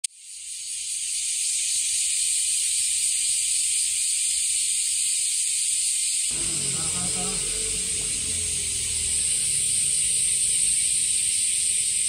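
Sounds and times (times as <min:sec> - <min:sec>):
cicadas chorus: 0:00.1 - 0:12.0.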